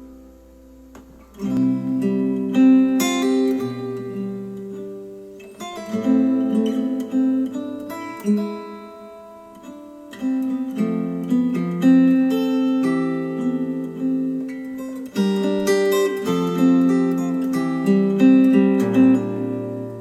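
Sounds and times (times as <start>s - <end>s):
acoustic guitar strummed chords: 0.0s - 20.0s.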